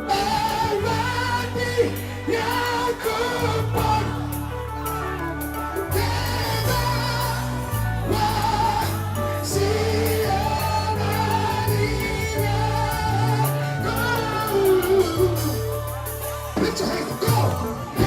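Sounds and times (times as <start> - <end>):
choir singing: 0.0 - 18.0
steady bass line: 0.0 - 18.0.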